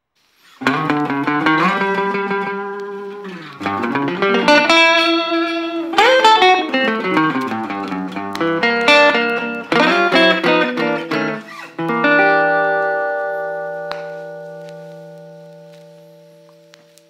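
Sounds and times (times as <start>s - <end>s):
resonator guitar fingerstyle: 0.6s - 17.0s.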